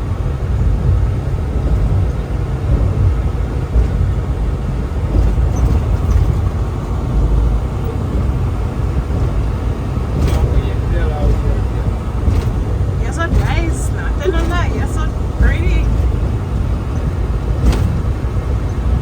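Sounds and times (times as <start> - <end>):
truck driving at speed: 0.0 - 19.0.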